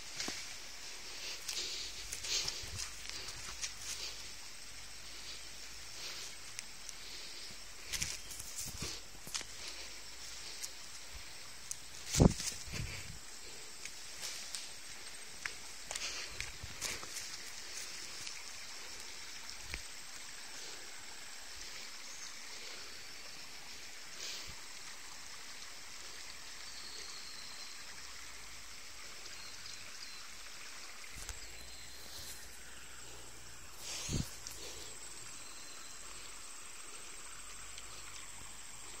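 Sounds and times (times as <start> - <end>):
stream running: 0.0 - 39.0.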